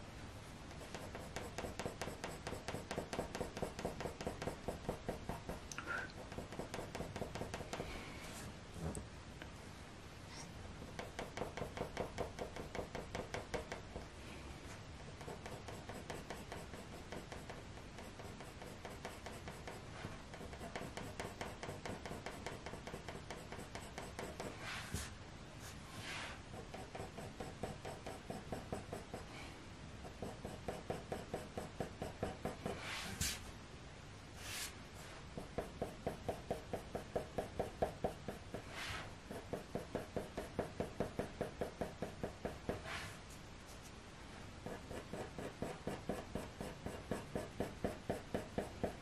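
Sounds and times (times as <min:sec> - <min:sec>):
pencil scratching on paper: 0:00.7 - 0:08.5, 0:10.3 - 0:14.1, 0:15.0 - 0:29.3, 0:30.0 - 0:33.5, 0:34.4 - 0:43.9, 0:44.6 - 0:49.0.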